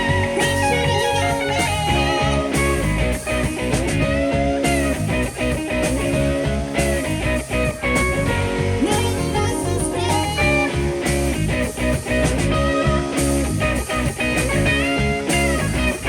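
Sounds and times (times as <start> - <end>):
bass and drums: 0.0 - 16.0
electric guitar lead: 0.0 - 16.0.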